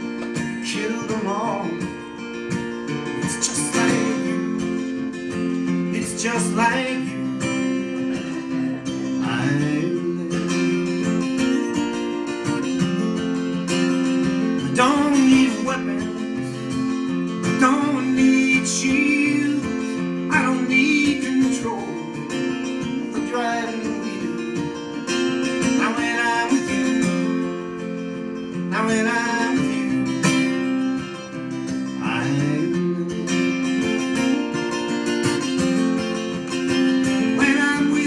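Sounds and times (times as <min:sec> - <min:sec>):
man singing: 0:00.0 - 0:12.3, 0:14.2 - 0:27.9, 0:28.5 - 0:35.0, 0:36.5 - 0:38.0
acoustic guitar strumming: 0:00.0 - 0:38.0.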